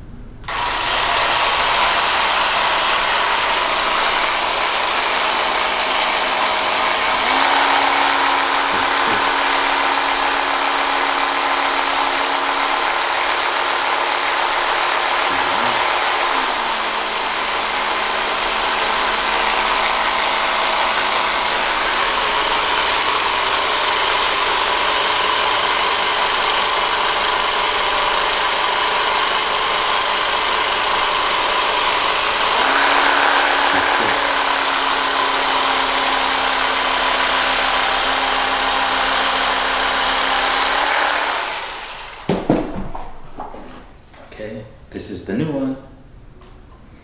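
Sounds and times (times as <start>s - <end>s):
massager buzzing hum: 0.0s - 42.4s.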